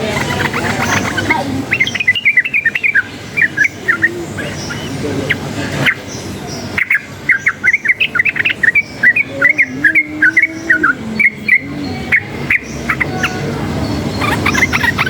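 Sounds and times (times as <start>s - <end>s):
bird singing rapid chirping notes: 0.0s - 15.0s.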